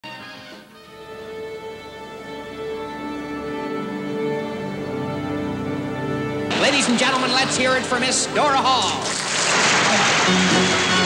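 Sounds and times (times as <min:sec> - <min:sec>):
orchestral held chords with violins: 0:00.0 - 0:08.9, 0:10.0 - 0:11.0.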